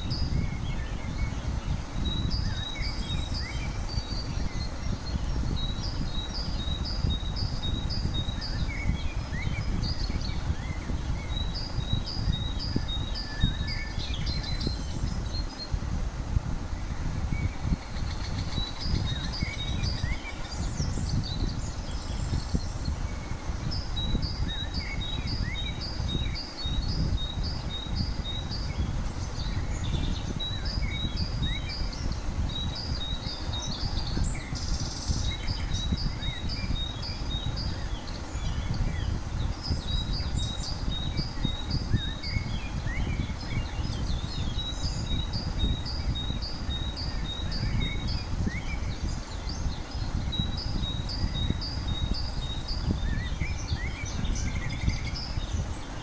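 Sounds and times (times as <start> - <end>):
low rumbling background noise: 0.0 - 56.0
small birds chirping: 0.0 - 56.0.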